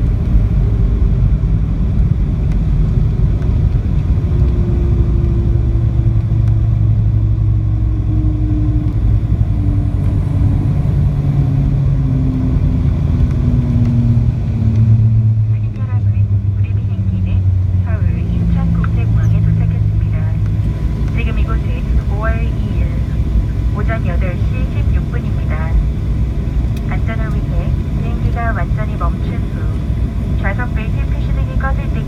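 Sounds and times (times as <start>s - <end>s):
jet cabin low rumble: 0.0s - 32.0s.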